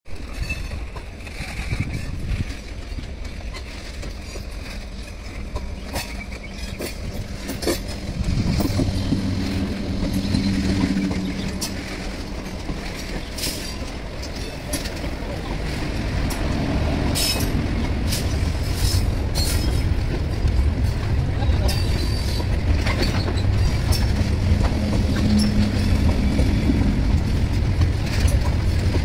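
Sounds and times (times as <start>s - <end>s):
low train hum: 0.1s - 29.0s
train wheels rumbling on rails: 0.1s - 29.0s
wheels clicking over rail joints: 0.1s - 29.0s.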